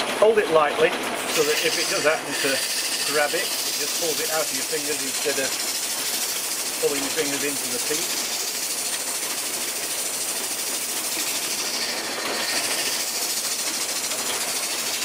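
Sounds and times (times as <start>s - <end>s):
wood lathe running: 0.0s - 15.0s
sandpaper hissing on spinning wood: 1.2s - 15.0s.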